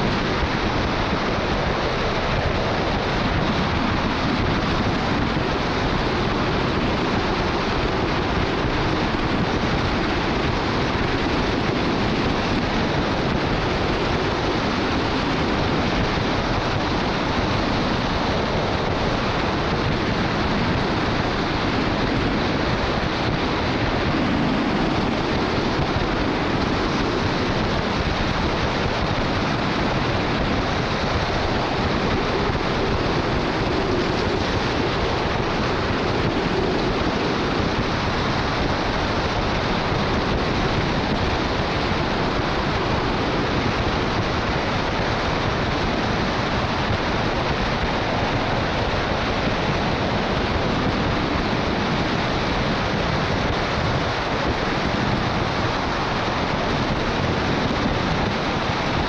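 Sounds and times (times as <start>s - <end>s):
rushing wind: 0.0s - 59.0s.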